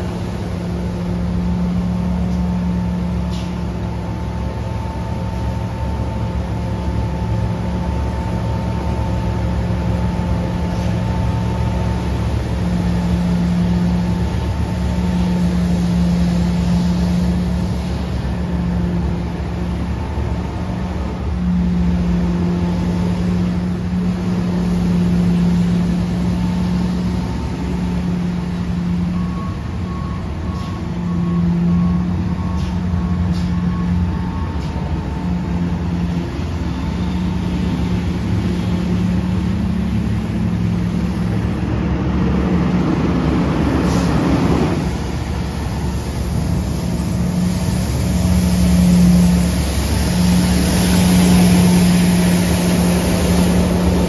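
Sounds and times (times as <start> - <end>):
street sweeper engine droning: 0.0 - 54.0.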